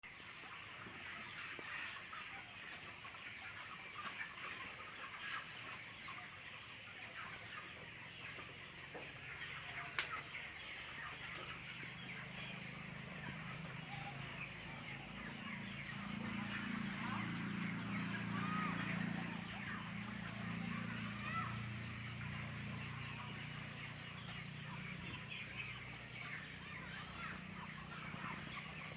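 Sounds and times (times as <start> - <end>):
chickens clucking and peeping: 0.4 - 28.9.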